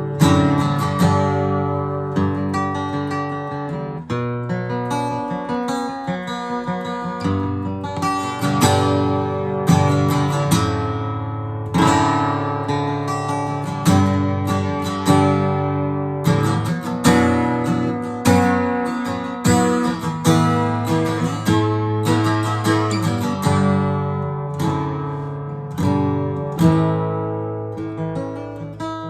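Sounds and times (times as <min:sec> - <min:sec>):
acoustic guitar strummed: 0:00.0 - 0:29.0.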